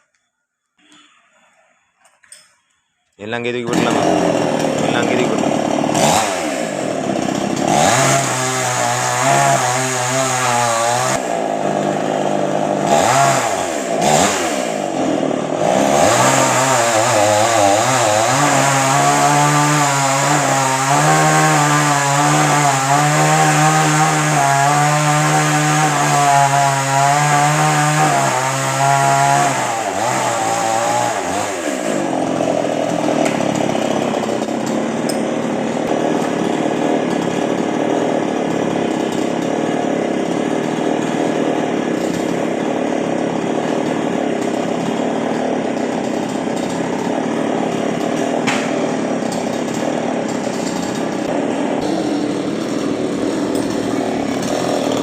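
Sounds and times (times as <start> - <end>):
chainsaw revving and cutting wood: 3.3 - 55.0.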